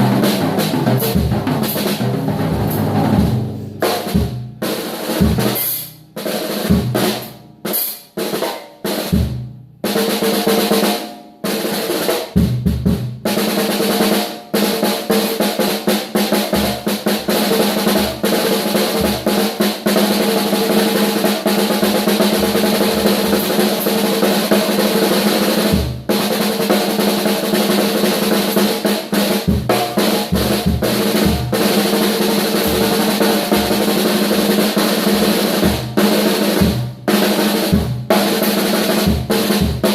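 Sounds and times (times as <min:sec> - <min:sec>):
snare drum rolls: 0:00.0 - 0:09.4, 0:11.6 - 0:39.9
drum kit hits and fills: 0:00.0 - 0:10.0, 0:14.8 - 0:39.9.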